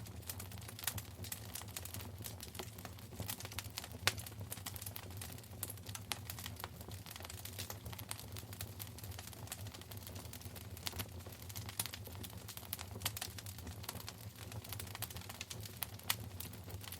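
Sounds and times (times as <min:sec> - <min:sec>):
low rumble of burning fire: 0:00.0 - 0:16.9
wood fire crackling: 0:00.0 - 0:16.9.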